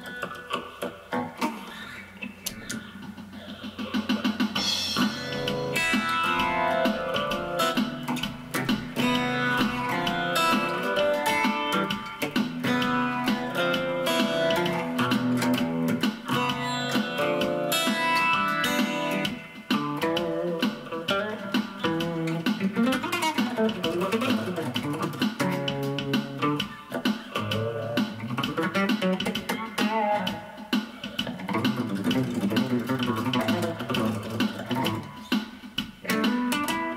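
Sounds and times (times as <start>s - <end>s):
acoustic guitar melody: 4.6s - 36.9s.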